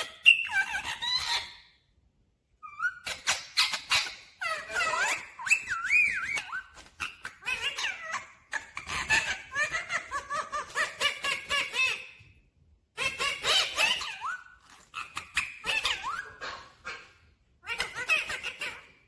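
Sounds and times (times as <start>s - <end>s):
parakeet chattering: 0.0s - 1.6s, 2.6s - 12.0s, 13.0s - 19.0s.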